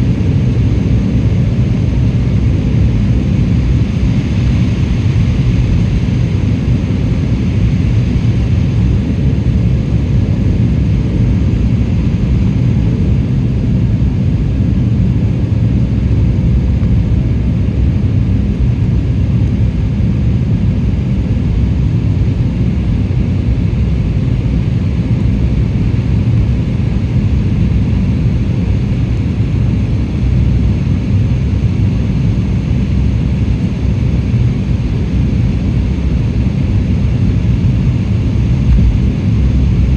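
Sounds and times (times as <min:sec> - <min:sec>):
faint steady whine: 0:00.0 - 0:39.9
jet airliner cabin roar: 0:00.0 - 0:39.9.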